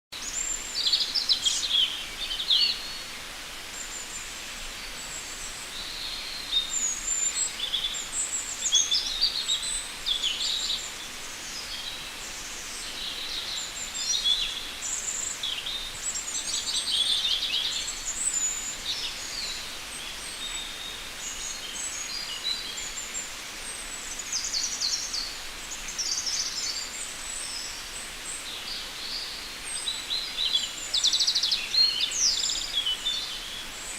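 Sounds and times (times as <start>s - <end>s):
faint forest ambience hiss: 0.1s - 33.9s.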